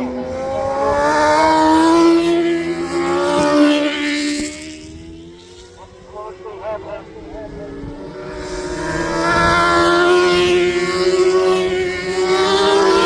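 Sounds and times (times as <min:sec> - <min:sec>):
racing motorcycle engines passing by: 0:00.0 - 0:13.0.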